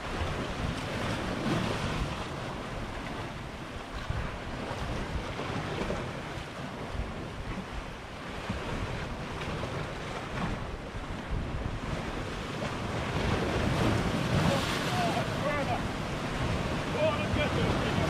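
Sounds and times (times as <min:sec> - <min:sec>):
surf washing on rocks: 0:00.0 - 0:18.0
wind buffeting microphone: 0:00.0 - 0:18.0.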